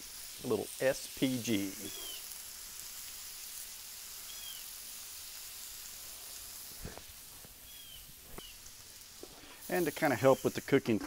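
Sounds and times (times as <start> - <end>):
potatoes sizzling on griddle: 0.0 - 11.0.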